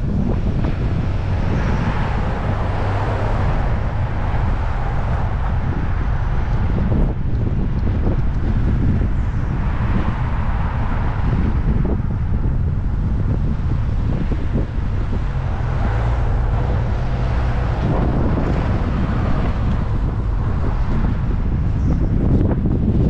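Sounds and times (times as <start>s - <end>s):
car road noise: 0.0s - 23.0s
wind rumble on microphone: 0.0s - 23.0s.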